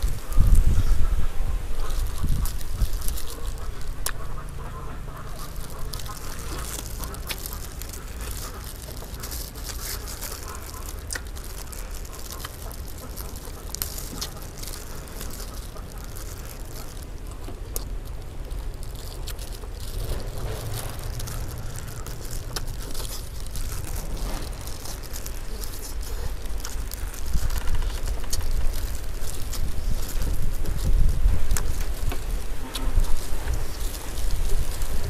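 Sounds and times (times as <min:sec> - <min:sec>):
steady low hum: 0:00.0 - 0:35.0
chewing and lip-smacking: 0:01.8 - 0:35.0.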